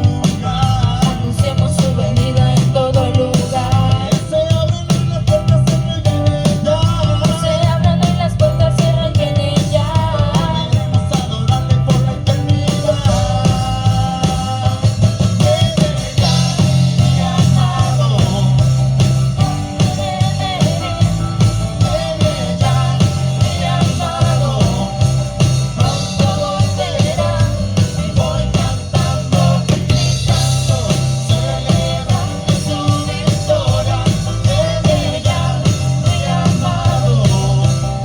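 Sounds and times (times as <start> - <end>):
bass guitar: 0.0 - 38.0
drum kit: 0.0 - 38.0
live band playing upbeat song: 0.0 - 38.0.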